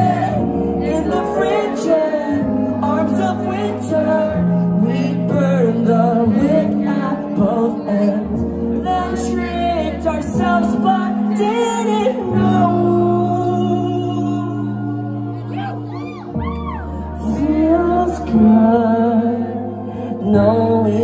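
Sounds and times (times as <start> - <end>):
man singing high lead vocal: 0.0 - 15.9, 17.0 - 21.0.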